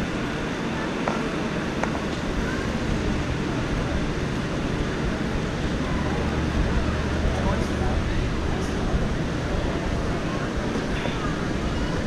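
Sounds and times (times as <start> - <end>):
crowded hall din: 0.0 - 12.0.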